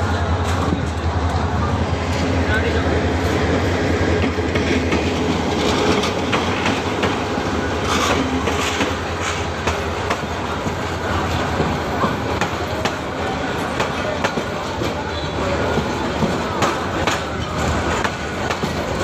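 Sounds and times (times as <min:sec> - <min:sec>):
train coaches rumbling: 0:00.0 - 0:19.0
wheels clacking over rail joints: 0:03.2 - 0:19.0.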